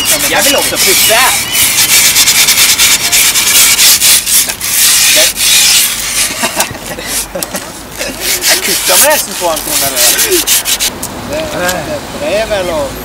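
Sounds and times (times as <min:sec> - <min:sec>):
tool scraping along griptape: 0:00.0 - 0:10.9.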